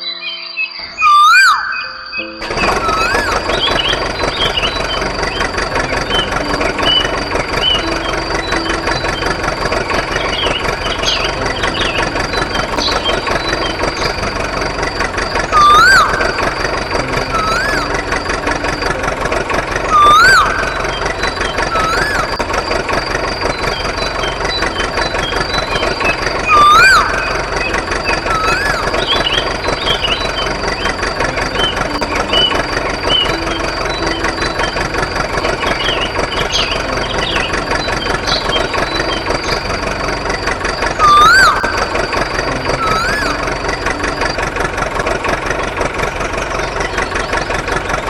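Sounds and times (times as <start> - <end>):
rising and falling squeals: 0.0 - 48.0
engine running with even knock: 2.4 - 48.0.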